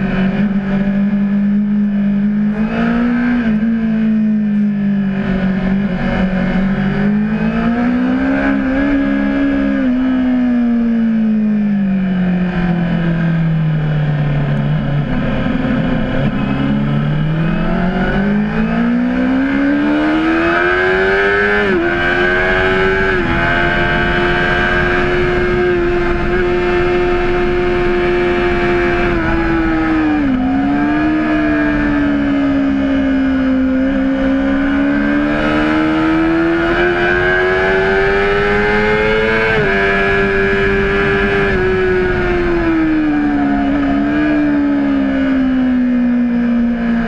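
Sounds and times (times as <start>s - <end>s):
motorcycle engine at high revs: 0.0s - 47.0s.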